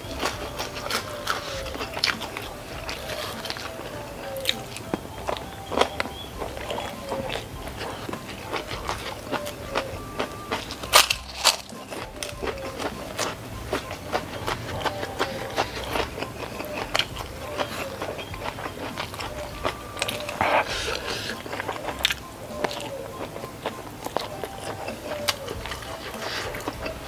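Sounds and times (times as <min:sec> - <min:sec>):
person chewing: 0:00.0 - 0:27.0.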